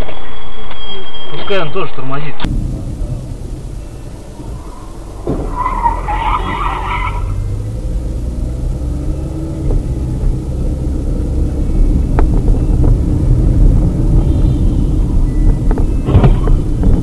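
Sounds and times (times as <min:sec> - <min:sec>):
car road and engine rumble: 0:02.4 - 0:17.0.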